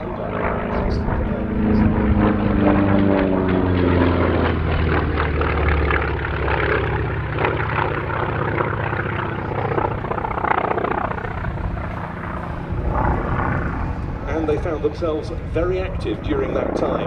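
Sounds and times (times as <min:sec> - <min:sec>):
propeller plane flying past: 0:00.0 - 0:17.0.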